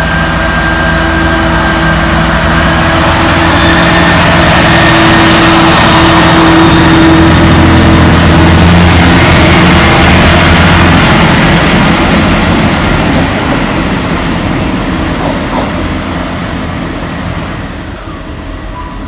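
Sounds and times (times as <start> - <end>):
diesel train engines: 0.0 - 19.0
train wheels on rails: 0.0 - 19.0.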